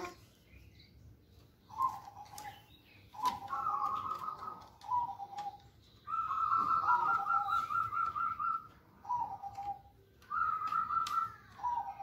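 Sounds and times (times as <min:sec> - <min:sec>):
songbird calling: 0:00.0 - 0:12.0.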